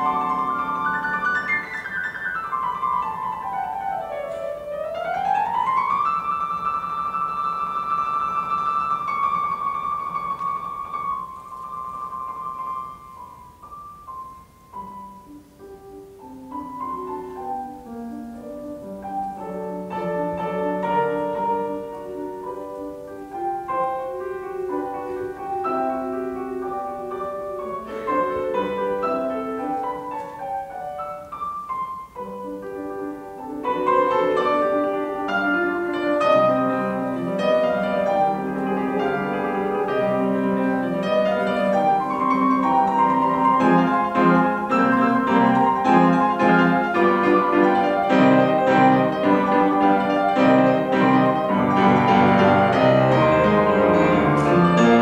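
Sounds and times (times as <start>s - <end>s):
grand piano solo: 0.0s - 55.0s.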